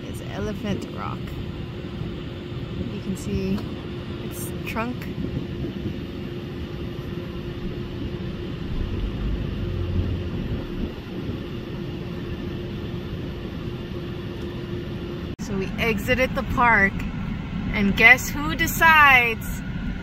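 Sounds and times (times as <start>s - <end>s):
car engine running: 2.8s - 20.0s.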